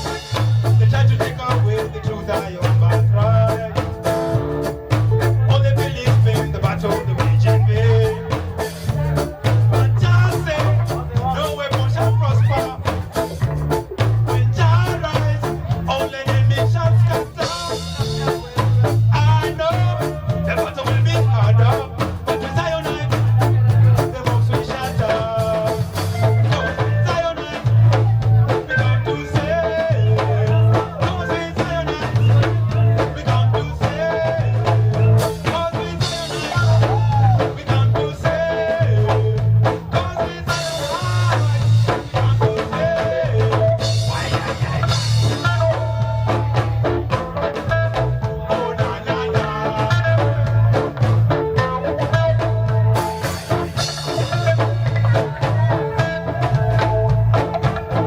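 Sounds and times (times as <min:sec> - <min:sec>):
reggae band playing: 0:00.0 - 0:58.0.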